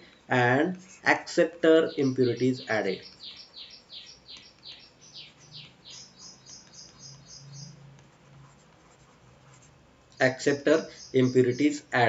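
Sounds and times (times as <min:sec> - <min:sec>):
bird singing faintly: 0:00.0 - 0:08.0, 0:10.1 - 0:12.0.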